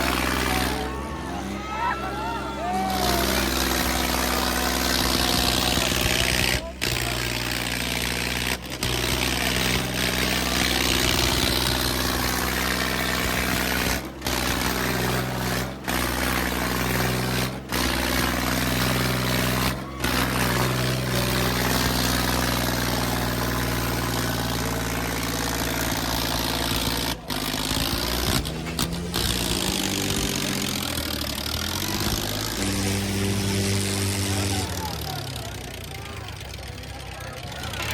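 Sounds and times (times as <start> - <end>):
tractor engine running hard: 0.0 - 37.9.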